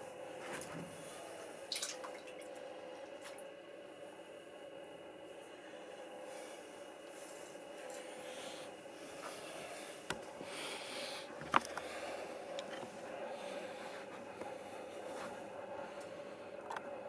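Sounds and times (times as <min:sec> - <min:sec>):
steady faint hum: 0:00.0 - 0:17.0.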